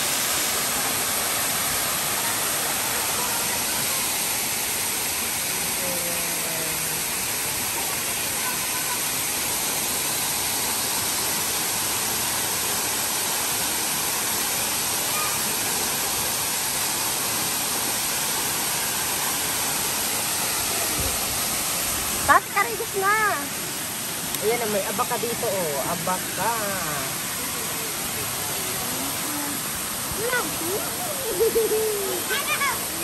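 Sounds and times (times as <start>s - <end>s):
waterfall rushing into pool: 0.0s - 33.0s.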